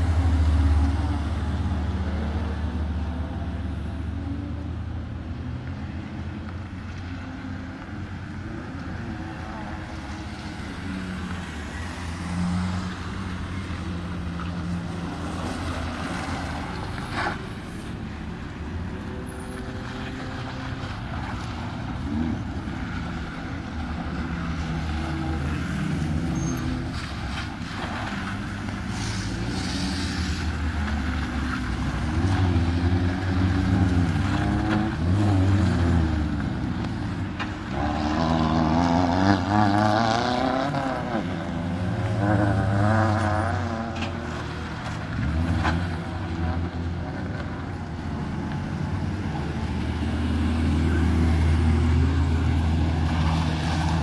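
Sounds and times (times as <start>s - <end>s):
racing car engines passing: 5.4s - 54.0s.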